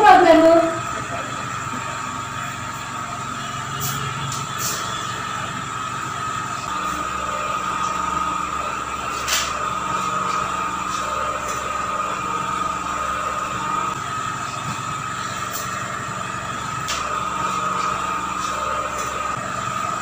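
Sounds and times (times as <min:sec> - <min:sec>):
mechanical hum with high whine: 0:00.0 - 0:20.0.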